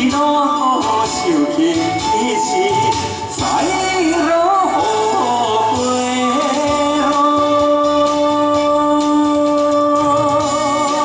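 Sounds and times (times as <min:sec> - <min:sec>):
backing music: 0:00.0 - 0:11.0
man singing long note: 0:00.0 - 0:11.0.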